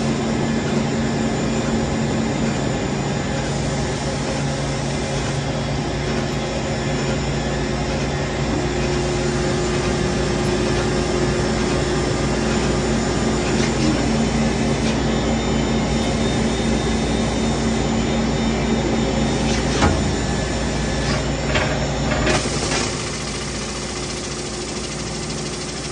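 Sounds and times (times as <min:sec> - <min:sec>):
lathe mechanical hum: 0:00.0 - 0:25.9
steady machine tones: 0:00.0 - 0:25.9.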